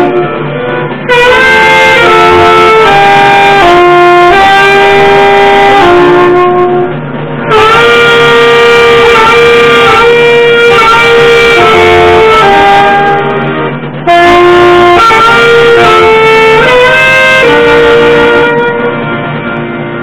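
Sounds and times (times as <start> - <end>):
saxophones playing in harmony: 0.0 - 20.0.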